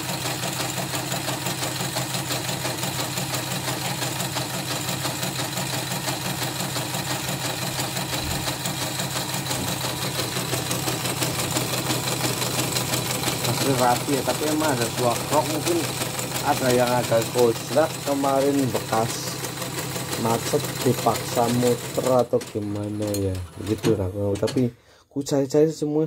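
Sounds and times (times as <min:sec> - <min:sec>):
embroidery machine clattering: 0:00.0 - 0:24.7.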